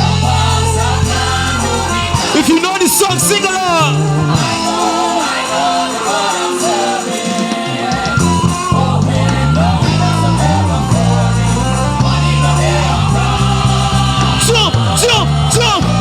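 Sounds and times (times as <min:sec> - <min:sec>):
heavy bass line: 0:00.0 - 0:05.5, 0:08.0 - 0:16.0
backing track music: 0:00.0 - 0:16.0.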